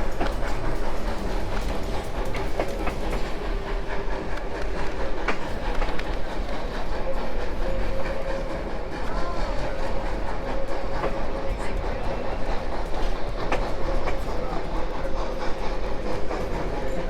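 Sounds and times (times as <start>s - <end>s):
clickety-clack of rails: 0.0s - 17.0s
train wheels rumbling on rails: 0.0s - 17.0s.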